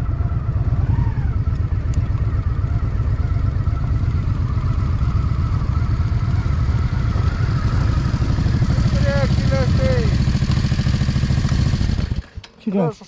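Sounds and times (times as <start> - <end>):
motorcycle engine idling: 0.0 - 12.5.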